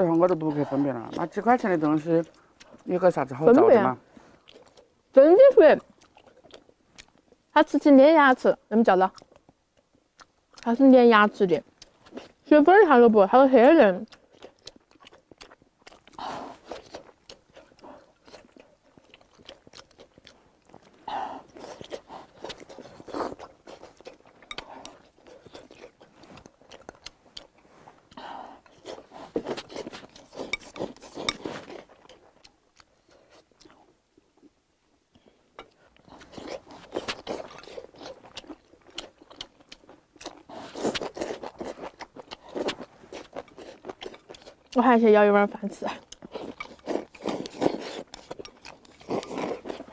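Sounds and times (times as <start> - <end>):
person chewing: 0.0 - 5.0, 5.8 - 7.5, 9.1 - 10.8, 11.7 - 12.4, 14.0 - 44.8, 45.8 - 49.9.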